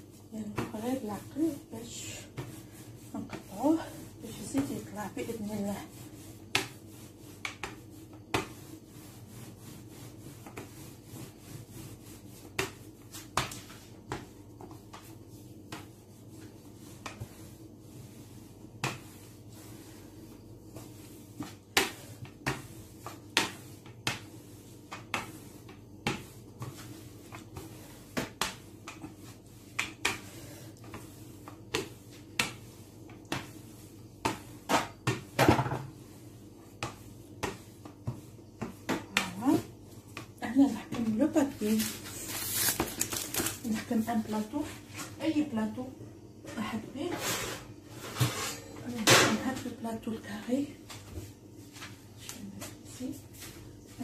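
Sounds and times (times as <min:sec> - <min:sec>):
rolling pin rubbing on dough: 0:00.0 - 0:54.0.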